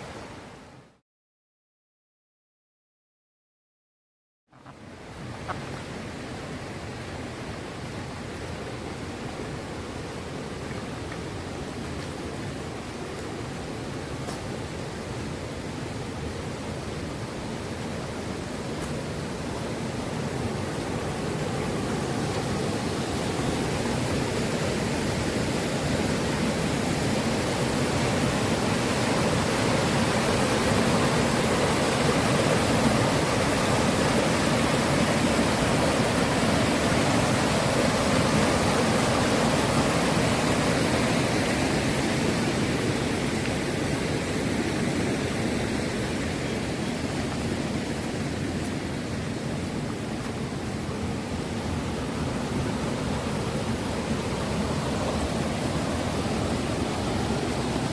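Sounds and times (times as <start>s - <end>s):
stream rushing over rocks: 4.6s - 57.9s.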